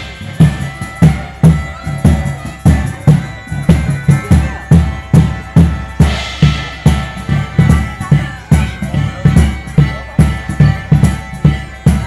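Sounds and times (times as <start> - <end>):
heavy drum beats: 0.0 - 12.0
live band music: 0.0 - 12.0.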